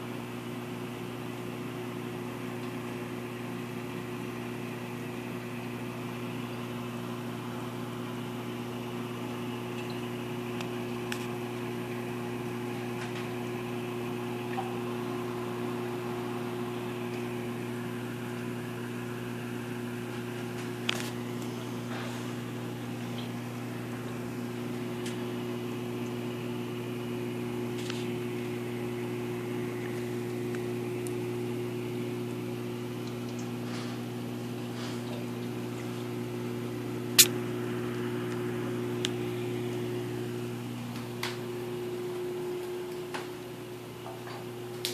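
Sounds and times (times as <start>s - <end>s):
aquarium pumps humming: 0.0s - 44.9s.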